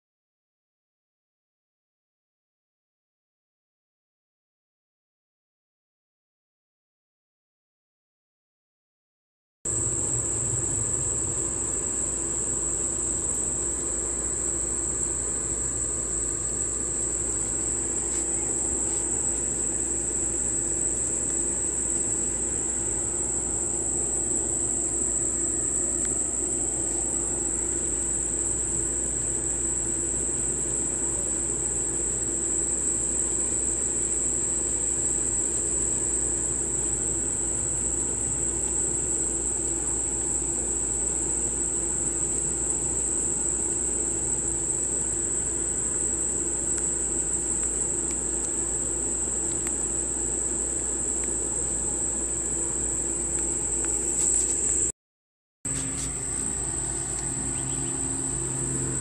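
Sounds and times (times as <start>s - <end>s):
faint low hum: 9.7s - 54.9s, 55.7s - 59.0s
high-pitched insect chorus: 9.7s - 54.9s, 55.7s - 59.0s.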